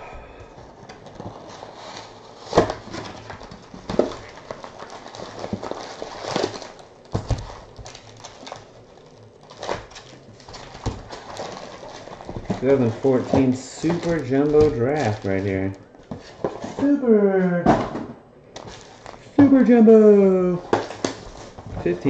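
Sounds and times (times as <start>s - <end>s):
wrappers crinkling: 0.4s - 17.0s, 18.5s - 22.0s.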